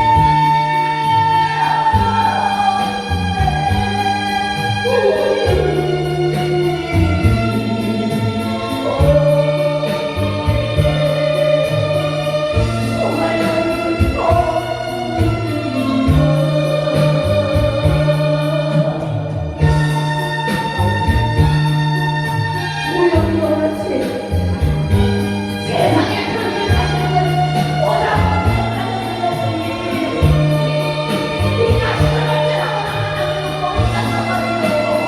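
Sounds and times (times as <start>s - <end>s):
melismatic singing: 0.0s - 21.1s, 22.1s - 35.0s
backing track with bass and beat: 0.0s - 35.0s.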